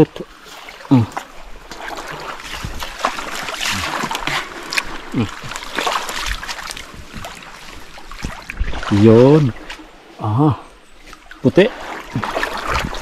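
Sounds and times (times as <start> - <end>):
shallow river water splashing: 0.0 - 13.0.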